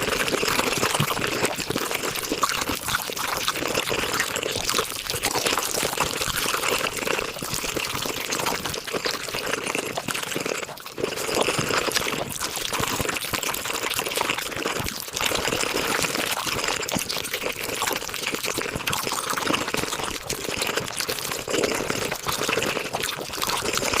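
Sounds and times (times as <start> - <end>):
wet chewing and mouth clicks: 0.0 - 24.0.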